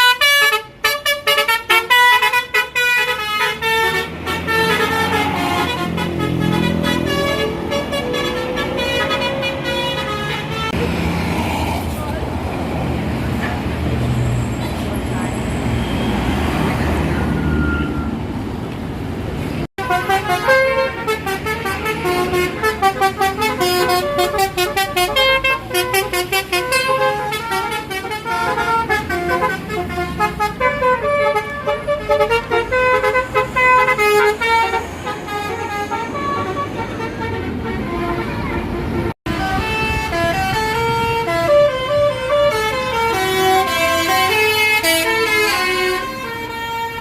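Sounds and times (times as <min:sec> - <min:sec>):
musical air horn melody: 0:00.0 - 0:10.8, 0:19.8 - 0:47.0
bus engine: 0:00.0 - 0:47.0
traffic noise: 0:00.0 - 0:47.0.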